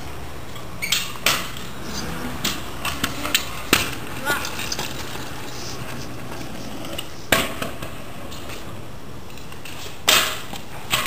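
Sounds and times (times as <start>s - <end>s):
scooter wheels rolling: 0.0s - 11.0s.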